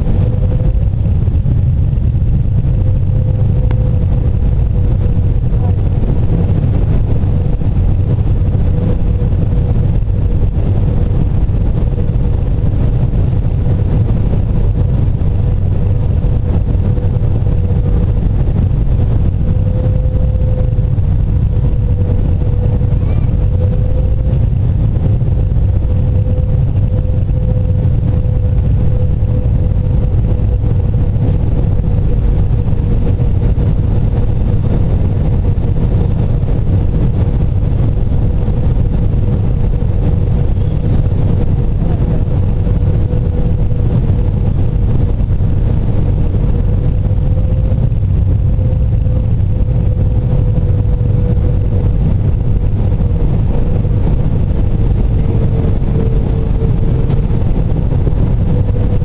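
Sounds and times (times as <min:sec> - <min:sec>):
jet engine rumble and rushing air: 0:00.0 - 0:59.0
steady humming tone: 0:00.0 - 0:59.0.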